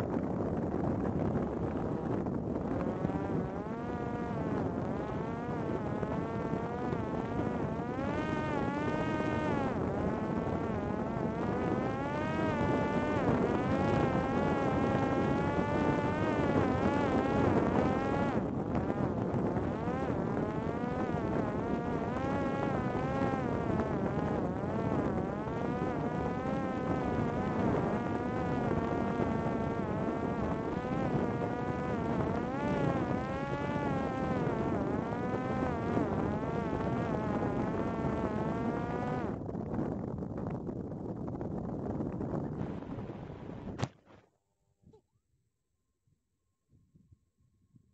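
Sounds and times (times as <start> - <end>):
steady rushing noise: 0.0 - 44.0
drone motor buzzing: 0.2 - 39.5, 42.5 - 43.8.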